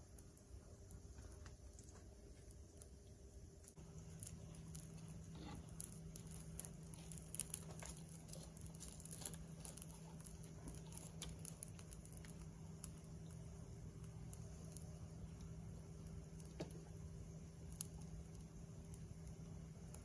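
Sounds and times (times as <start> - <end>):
campfire wood crackling: 0.0 - 20.0.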